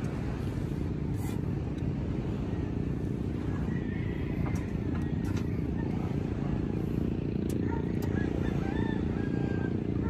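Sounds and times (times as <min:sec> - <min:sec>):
motorboat engine rumbling: 0:00.0 - 0:10.0.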